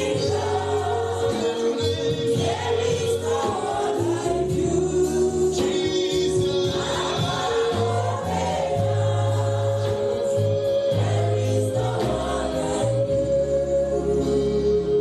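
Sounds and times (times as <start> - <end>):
gospel choir singing: 0.0 - 15.0
steady bass line: 0.0 - 15.0.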